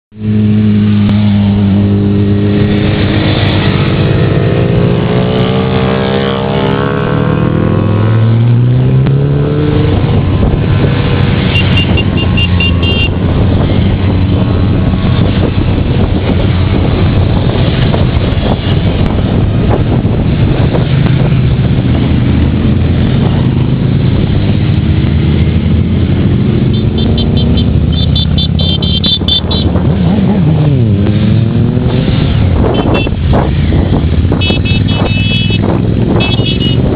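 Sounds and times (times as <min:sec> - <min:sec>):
motorcycles riding past: 0:00.2 - 0:36.9.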